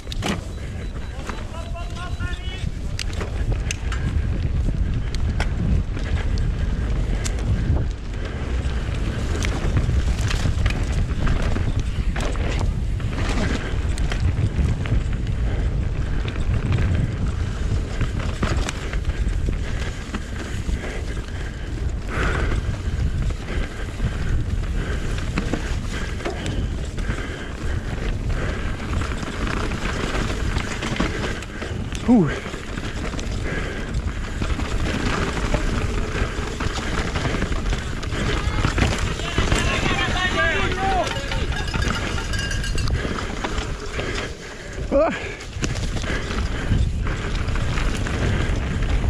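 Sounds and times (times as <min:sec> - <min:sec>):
bike rattles and knocks: 0:00.0 - 0:49.0
wind buffeting microphone: 0:00.0 - 0:49.0.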